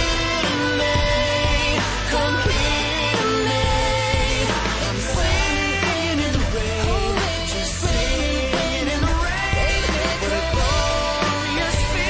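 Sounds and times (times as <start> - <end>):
person singing: 0.0 - 12.0
pop band backing: 0.0 - 12.0.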